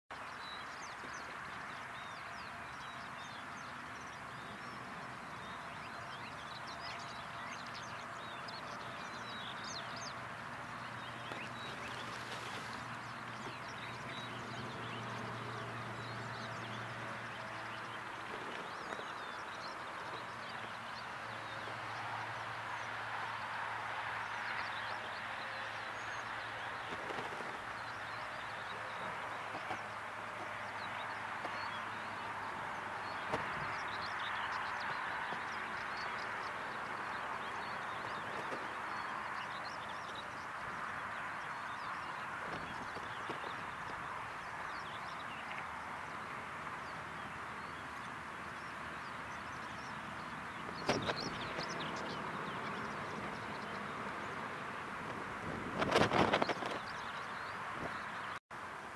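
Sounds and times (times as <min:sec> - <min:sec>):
small birds chirping: 0:00.1 - 0:58.4.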